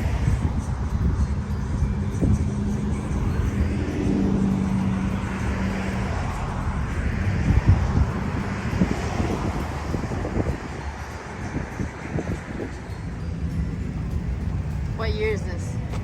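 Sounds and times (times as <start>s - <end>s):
car engine droning: 0.0s - 16.0s
low rumble of vehicles: 0.0s - 16.0s.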